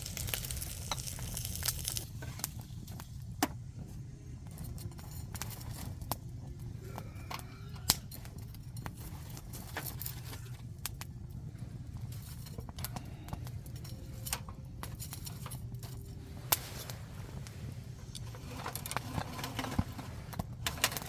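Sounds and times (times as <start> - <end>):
steady low rumble: 0.0 - 20.7
campfire crackling and popping: 0.0 - 21.0.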